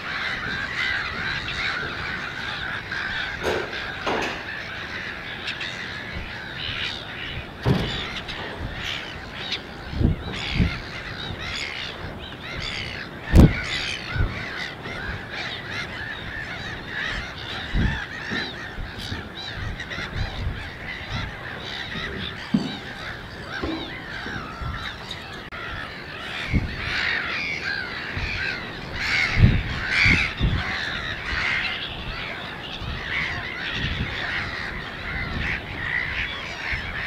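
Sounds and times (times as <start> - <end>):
chorus of birds calling: 0.0 - 37.0.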